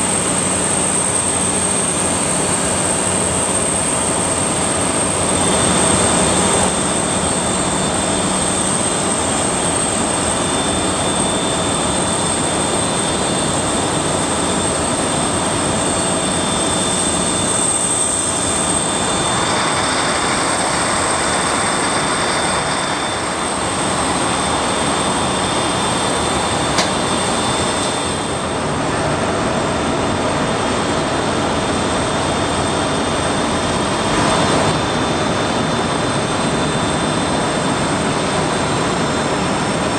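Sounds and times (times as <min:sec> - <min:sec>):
turbofan engines running: 0:00.0 - 0:39.9.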